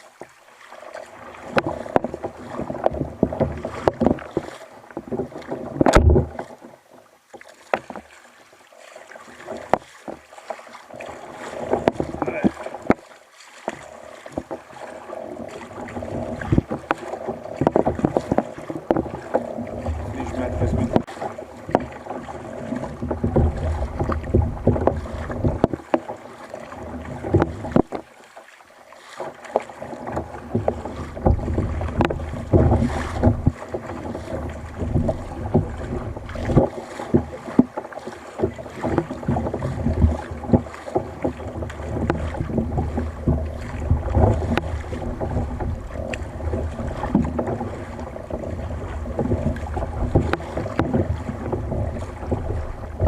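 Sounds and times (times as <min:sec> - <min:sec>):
water lapping against kayak hull: 0:00.0 - 0:53.0
knocks on kayak hull: 0:01.5 - 0:06.6, 0:07.6 - 0:08.1, 0:11.5 - 0:14.6, 0:15.8 - 0:28.1, 0:29.2 - 0:53.0.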